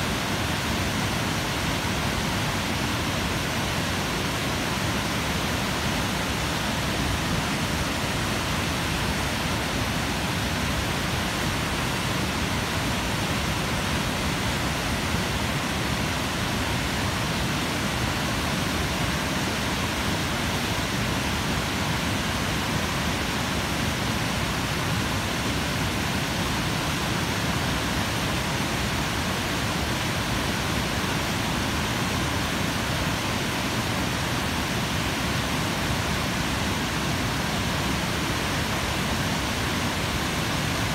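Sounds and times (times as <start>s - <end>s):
water rushing over spillway: 0.0s - 40.9s.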